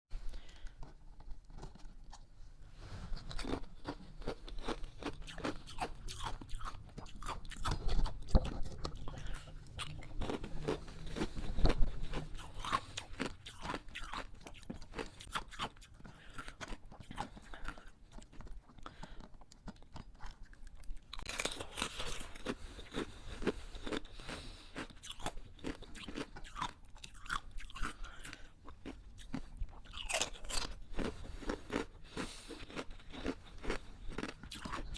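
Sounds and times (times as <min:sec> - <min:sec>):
ice being chewed: 0:03.2 - 0:34.9.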